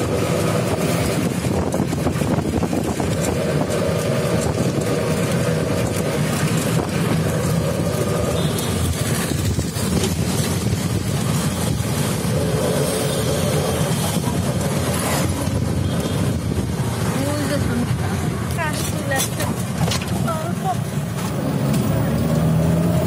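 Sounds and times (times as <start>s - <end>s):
road rumble: 0.0s - 23.0s
vehicle engine drone: 0.0s - 23.0s.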